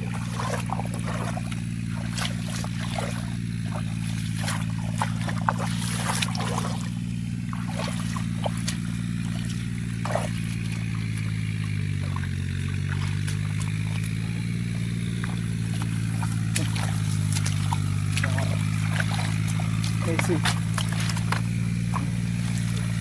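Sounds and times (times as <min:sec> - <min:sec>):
light splashes: 0:00.0 - 0:23.0
small engine running: 0:00.0 - 0:23.0
water trickling: 0:00.0 - 0:23.0.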